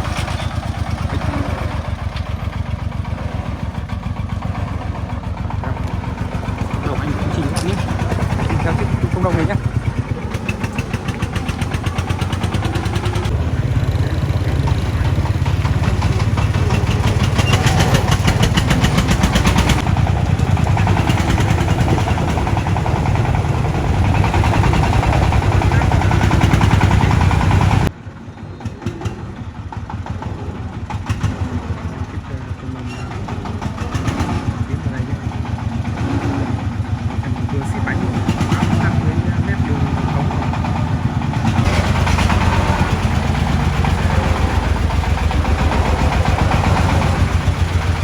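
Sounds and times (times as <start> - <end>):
diesel engine chugging: 0.0 - 48.0.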